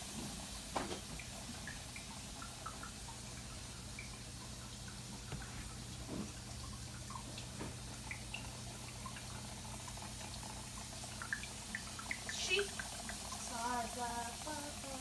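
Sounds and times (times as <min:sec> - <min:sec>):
small water drips: 0:00.0 - 0:15.0
water trickling: 0:00.0 - 0:15.0.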